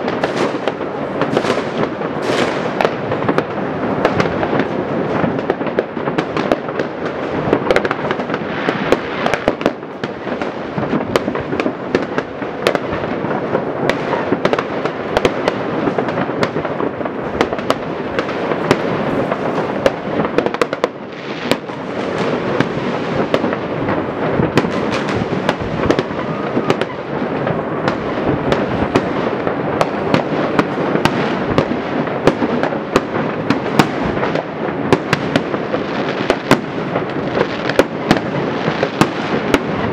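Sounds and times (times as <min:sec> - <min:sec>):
fireworks crackling and banging: 0:00.0 - 0:39.9
sharp firework reports: 0:00.0 - 0:39.9.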